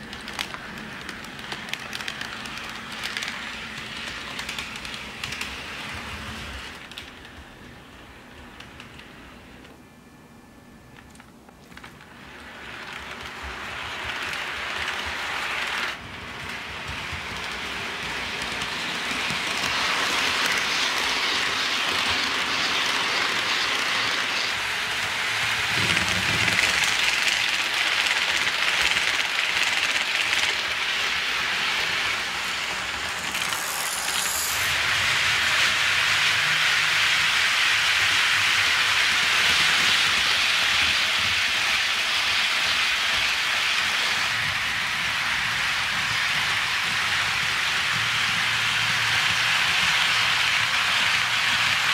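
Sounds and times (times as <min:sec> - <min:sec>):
model train wheels rolling on rails: 0:00.0 - 0:09.8, 0:11.0 - 0:51.9.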